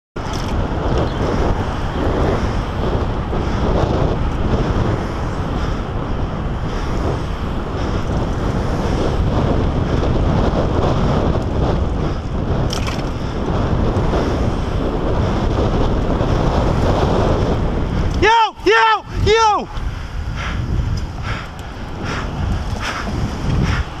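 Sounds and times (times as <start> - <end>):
wind rushing over microphone: 0.2 - 24.0.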